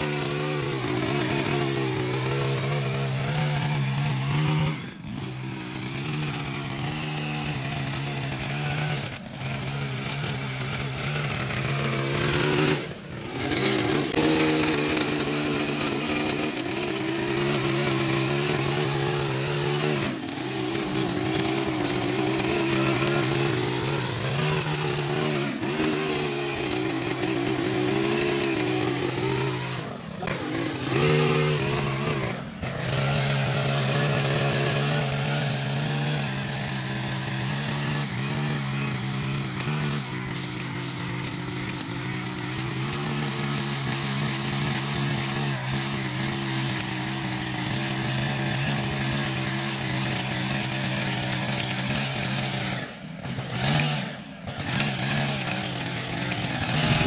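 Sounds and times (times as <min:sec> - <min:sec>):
mower engine running: 0:00.0 - 0:57.0.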